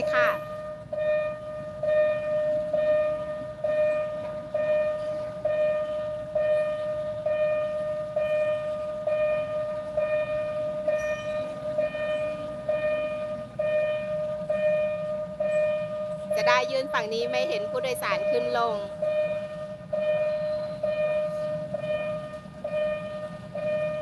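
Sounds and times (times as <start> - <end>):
diesel train rumble: 0.0 - 24.0
pulsing electronic warning tone: 0.0 - 24.0.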